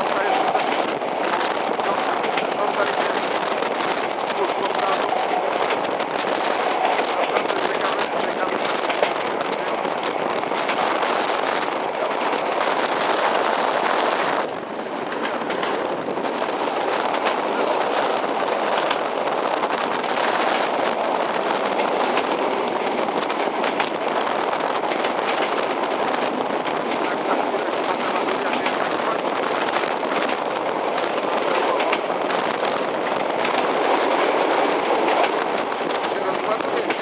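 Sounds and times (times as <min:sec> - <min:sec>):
train wheel clicks: 0:00.0 - 0:37.0
train wheels rumbling on rail: 0:00.0 - 0:37.0.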